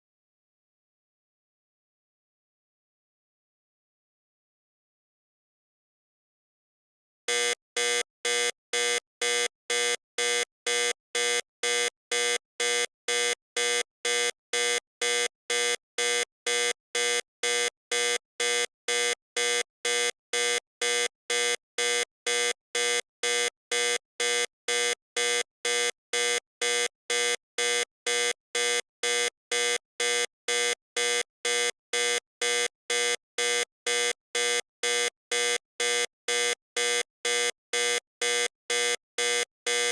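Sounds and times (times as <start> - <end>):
electronic warning buzzer beeping: 7.3 - 39.9.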